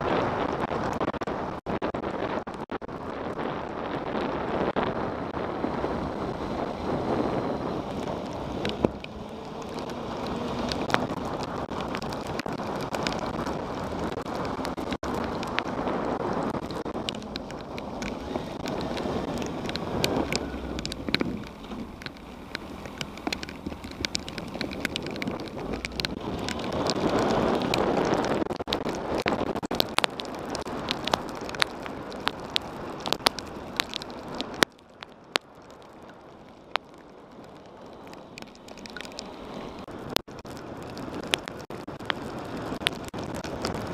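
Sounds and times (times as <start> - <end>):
wind rushing over microphone: 0.0 - 43.9
raindrops ticking on camera housing: 5.4 - 43.9.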